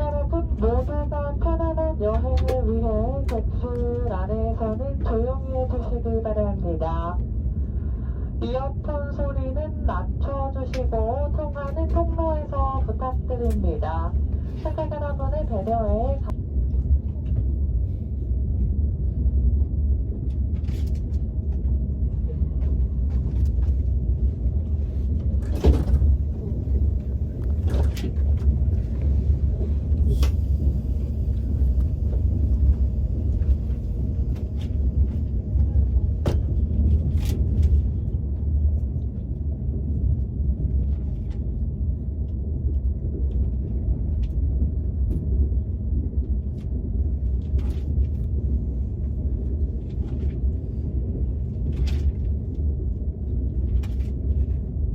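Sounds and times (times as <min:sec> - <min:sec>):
train rumbling inside carriage: 0:00.0 - 0:54.9.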